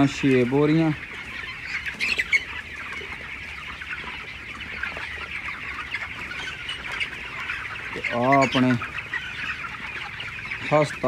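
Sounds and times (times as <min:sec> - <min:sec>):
chickens chirping and peeping: 0:00.0 - 0:11.0.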